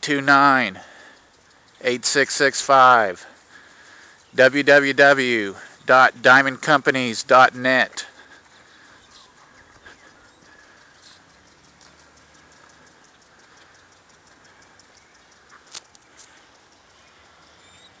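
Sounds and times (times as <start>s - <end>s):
rapid faint ticking: 0.0s - 18.0s.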